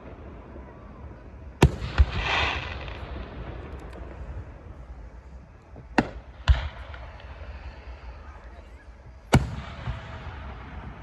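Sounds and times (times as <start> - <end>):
firework bangs: 0.0 - 11.0
firework hissing burst: 0.0 - 11.0.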